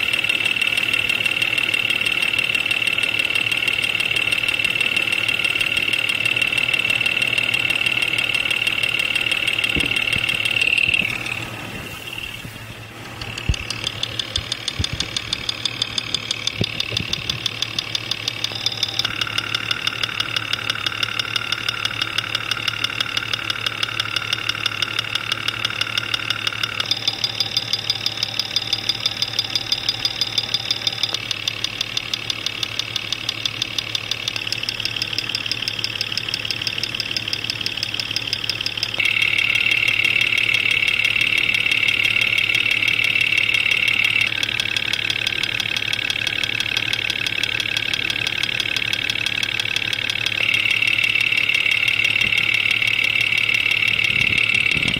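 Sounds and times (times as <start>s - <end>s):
engine running with knock: 0.0s - 54.9s.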